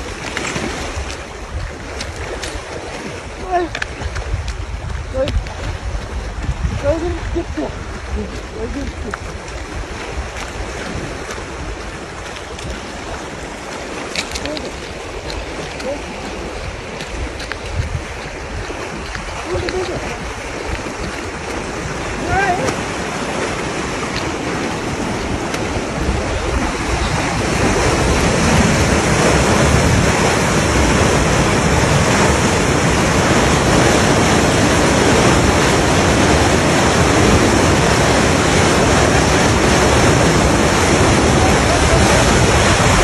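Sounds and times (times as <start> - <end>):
water rushing out of a culvert: 0.0 - 43.0.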